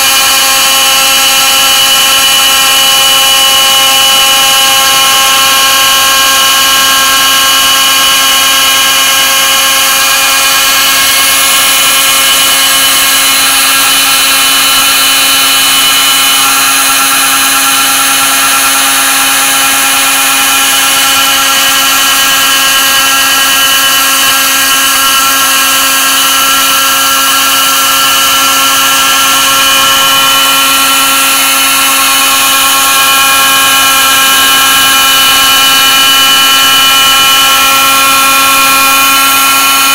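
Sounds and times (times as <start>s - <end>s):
end mill cutting thin aluminium: 0.0s - 39.9s
milling machine motor whine: 0.0s - 39.9s.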